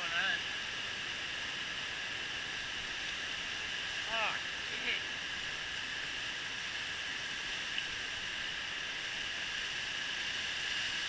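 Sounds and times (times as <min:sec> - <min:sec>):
creek water rushing over dam: 0:00.0 - 0:11.0.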